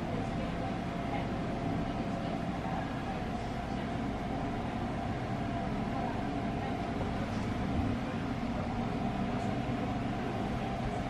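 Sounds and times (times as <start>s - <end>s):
room tone hum and hiss: 0.0s - 11.0s.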